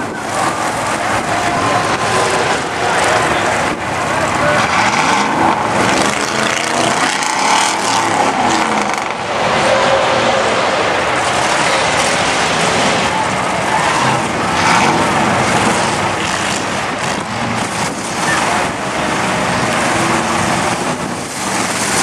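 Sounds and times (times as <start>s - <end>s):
truck engine revving: 0.0s - 22.0s
tyres churning through mud: 0.0s - 22.0s.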